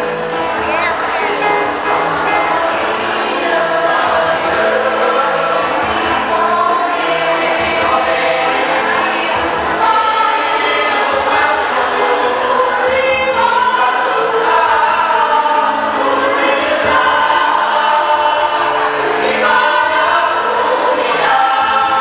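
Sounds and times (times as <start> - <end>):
choir singing long notes: 0.0 - 22.0.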